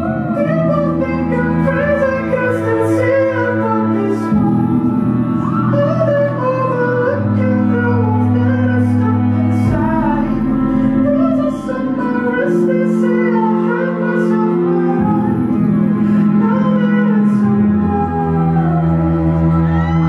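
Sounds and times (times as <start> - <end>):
live band playing low chords: 0.0 - 20.0
person singing: 0.0 - 20.0.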